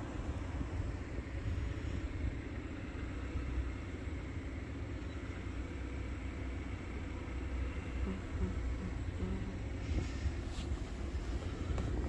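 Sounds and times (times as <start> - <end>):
vehicles idling rumble: 0.0 - 12.0.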